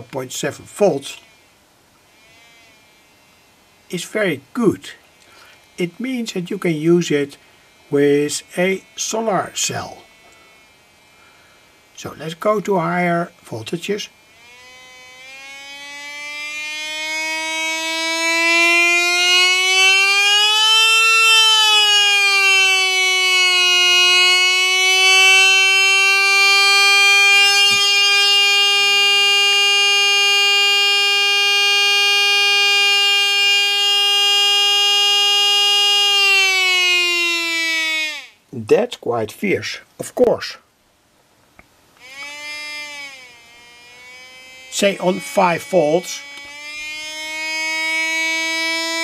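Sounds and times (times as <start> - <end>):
buzzy beeper tone: 2.1 - 11.3, 11.9 - 38.4, 42.0 - 49.0.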